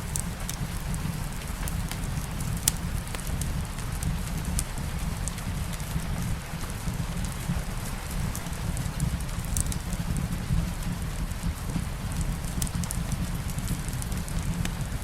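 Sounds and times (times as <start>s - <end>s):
light rain falling: 0.0s - 15.0s
wood fire crackling: 0.0s - 15.0s.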